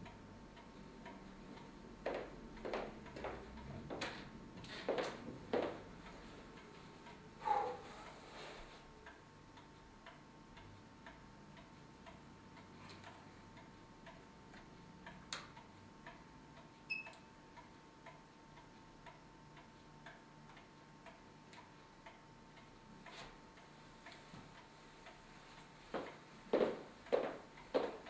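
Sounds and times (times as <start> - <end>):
pendulum clock ticking: 0.0 - 28.0.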